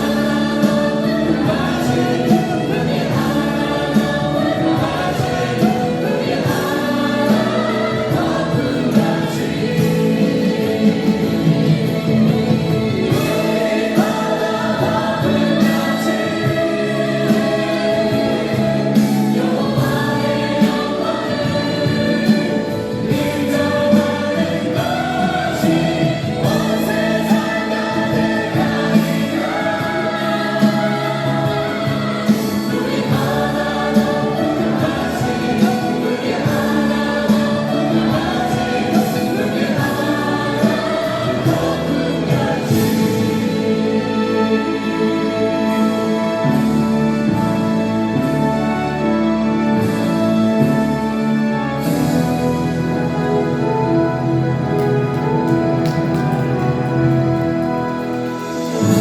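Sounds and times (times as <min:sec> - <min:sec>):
instrumental accompaniment with beat: 0:00.0 - 0:48.8, 0:54.4 - 0:59.0
choir singing worship song: 0:00.0 - 0:59.0.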